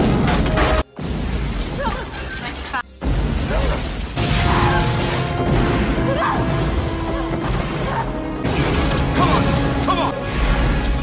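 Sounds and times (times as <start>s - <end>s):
film score with held notes: 0.0s - 11.0s.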